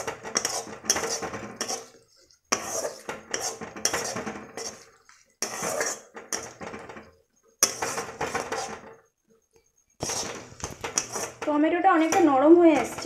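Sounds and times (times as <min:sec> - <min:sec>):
spatula scraping a pan: 0:00.0 - 0:13.0.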